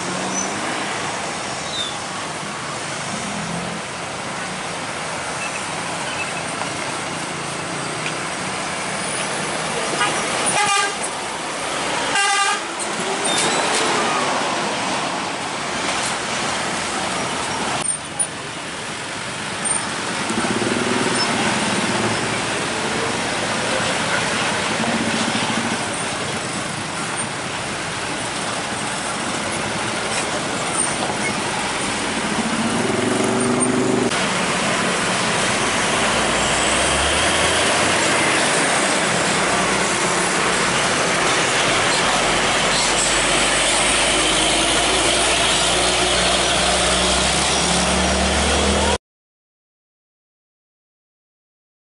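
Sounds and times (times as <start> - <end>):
diesel truck engines: 0.0 - 49.0
tyre and traffic noise: 0.0 - 49.0.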